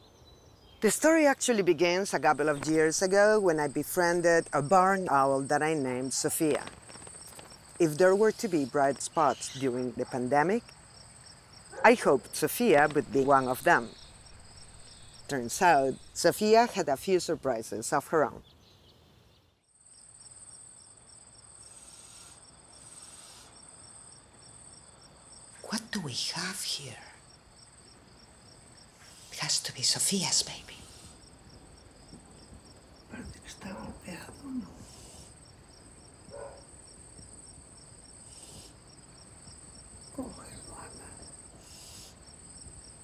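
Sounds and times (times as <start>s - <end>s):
cricket pulsing chirp: 1.9s - 17.6s, 19.6s - 43.0s.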